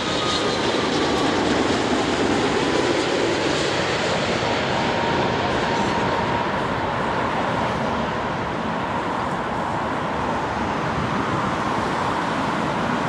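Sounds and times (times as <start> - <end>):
jet engine roar with whine: 0.0 - 13.0
road traffic: 0.0 - 13.0.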